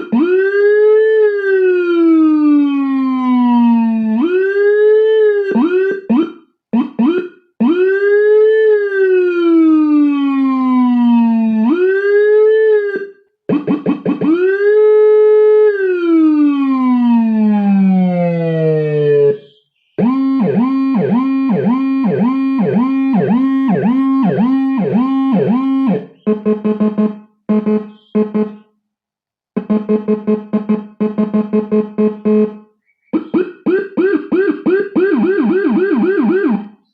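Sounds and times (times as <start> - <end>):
electronic siren: 0.0 - 28.7, 29.6 - 36.9
siren chirps: 0.0 - 28.7, 29.6 - 36.9.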